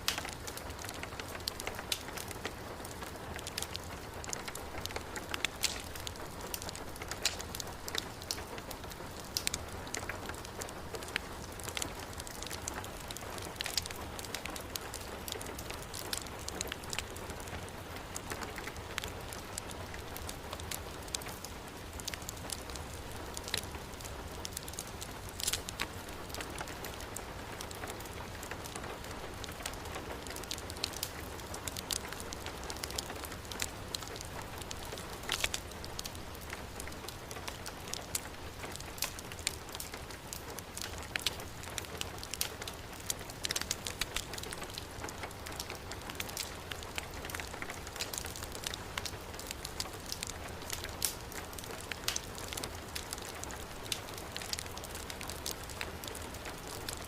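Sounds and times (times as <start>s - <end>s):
heavy rain: 0.0s - 57.0s
wood fire crackling and popping: 0.0s - 57.0s.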